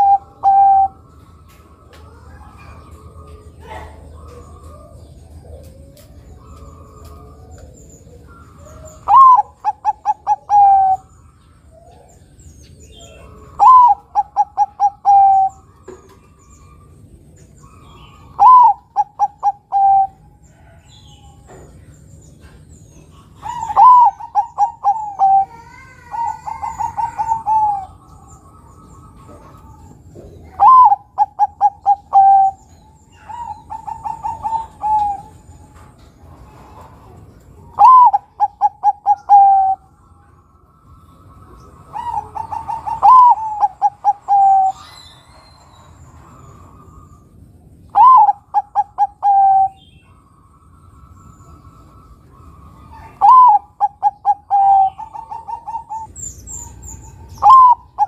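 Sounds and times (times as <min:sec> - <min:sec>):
dove cooing: 0:00.0 - 0:50.3, 0:51.0 - 0:58.0.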